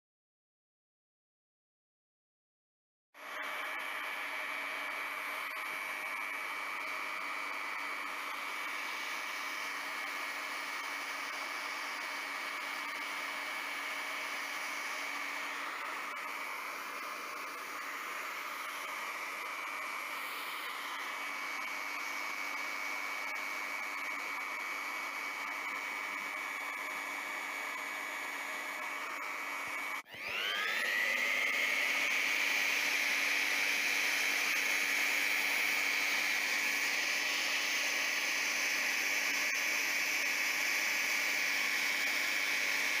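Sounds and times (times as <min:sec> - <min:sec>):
hot-air welder fan blowing: 0:03.2 - 0:43.0.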